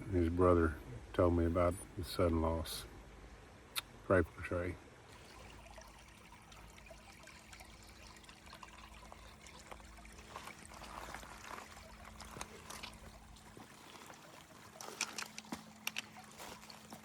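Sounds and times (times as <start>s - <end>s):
creek trickling: 1.3s - 17.0s.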